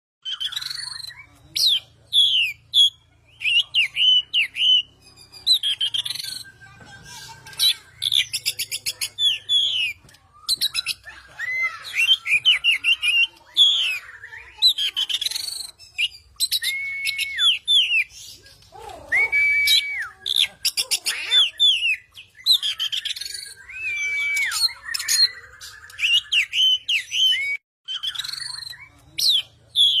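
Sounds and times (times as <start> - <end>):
bird singing with trills: 0.2 - 30.0.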